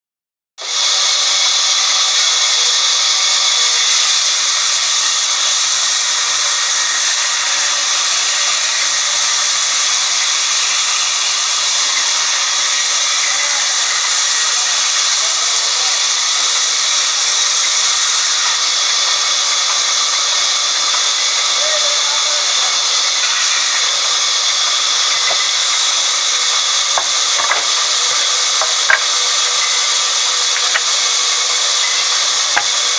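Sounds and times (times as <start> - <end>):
band saw cutting log: 0.6 - 32.9.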